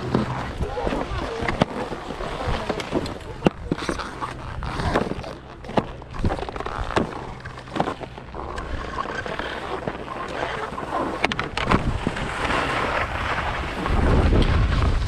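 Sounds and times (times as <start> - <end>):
skis scraping on hard snow: 0.0 - 15.0
wind rumbling on microphone: 0.0 - 15.0.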